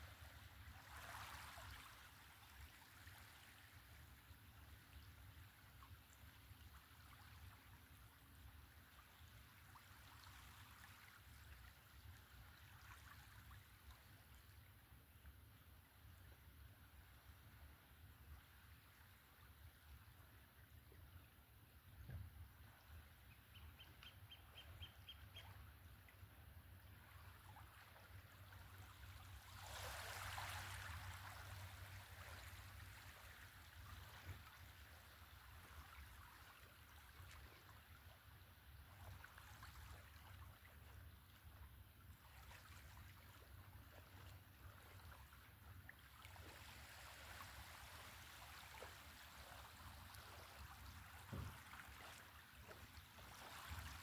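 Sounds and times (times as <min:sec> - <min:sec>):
small waves lapping: 0:00.0 - 0:21.2, 0:22.3 - 0:54.0.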